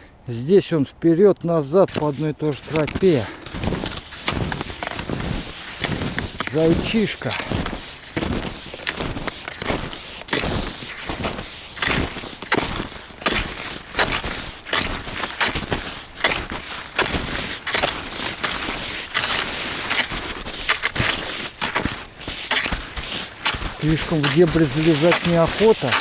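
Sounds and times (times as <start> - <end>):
skis crunching through snow: 1.8 - 26.0.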